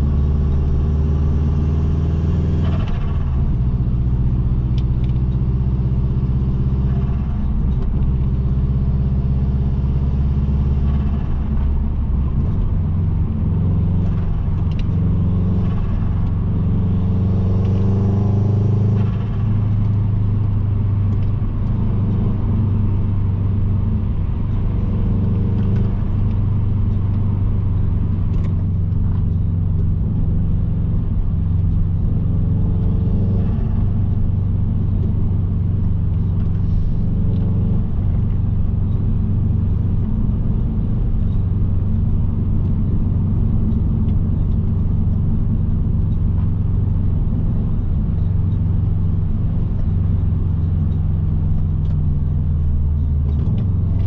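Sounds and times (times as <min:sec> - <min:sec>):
car engine rumble: 0:00.0 - 0:54.0.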